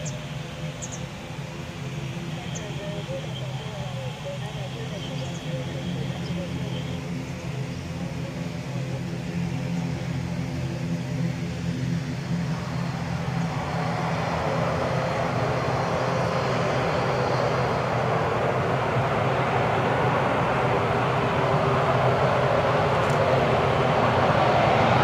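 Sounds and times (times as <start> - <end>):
jet engine roaring: 0.0 - 25.0.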